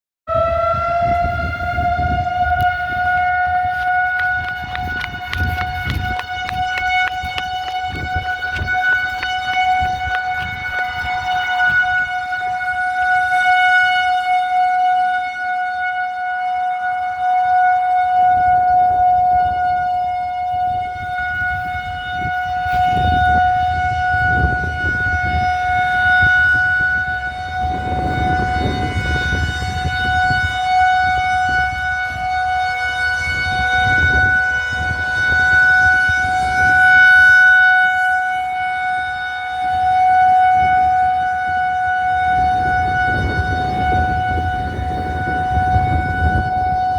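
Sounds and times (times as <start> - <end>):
rotating tornado siren: 0.3 - 46.9.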